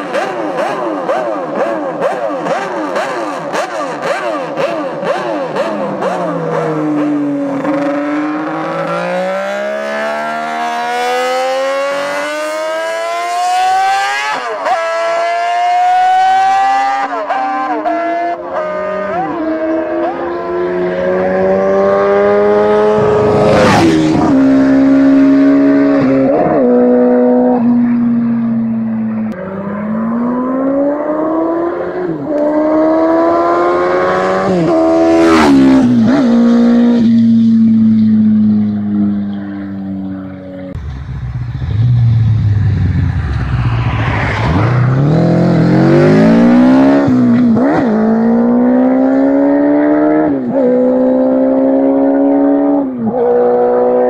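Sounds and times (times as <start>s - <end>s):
motorcycle pass-bys: 0.0s - 54.0s
motorcycles accelerating: 0.0s - 54.0s.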